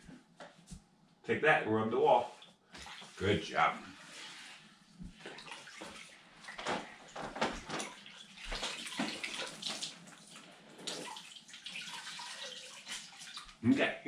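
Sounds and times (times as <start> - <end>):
water sloshing in bucket: 2.3 - 13.6.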